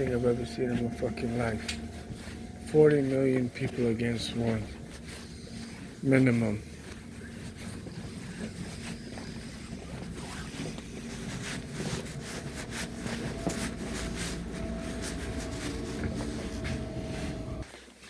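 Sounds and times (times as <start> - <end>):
steady humming tone: 0.0 - 17.7
train rumbling: 0.0 - 17.7.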